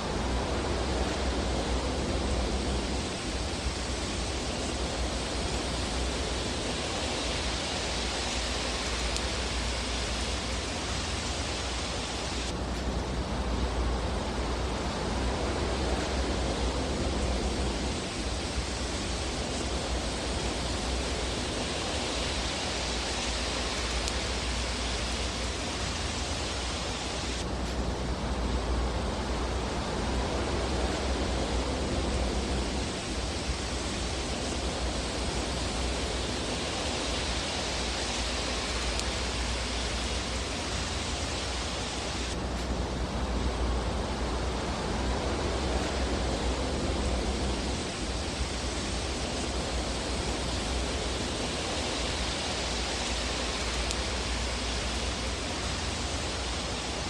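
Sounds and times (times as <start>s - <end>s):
fireplace hiss: 0.0s - 57.0s.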